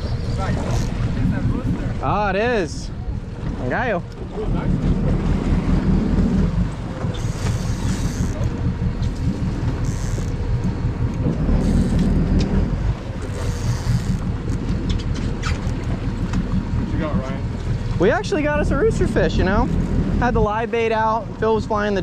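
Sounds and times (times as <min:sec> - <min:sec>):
boat engine humming: 0:00.0 - 0:22.0
wind buffeting microphone: 0:00.0 - 0:22.0.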